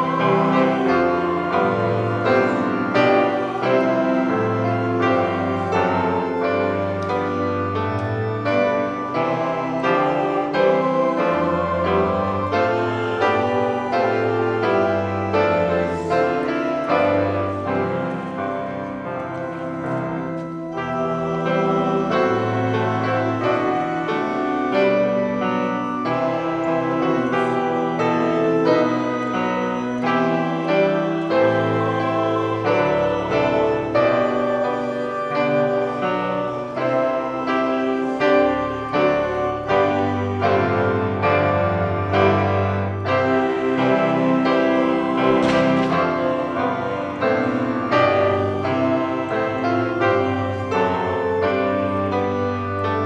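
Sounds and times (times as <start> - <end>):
piano piece: 0.0 - 53.0.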